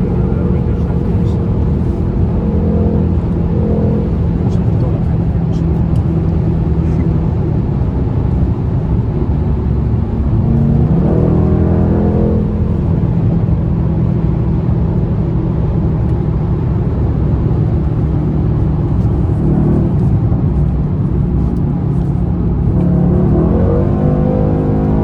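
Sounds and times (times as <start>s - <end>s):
car engine running hard: 0.0s - 25.0s.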